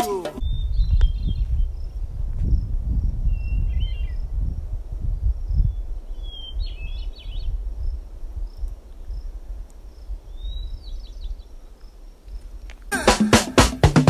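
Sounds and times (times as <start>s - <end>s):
songbird singing: 0.0s - 13.6s
wind buffeting microphone: 0.4s - 12.7s.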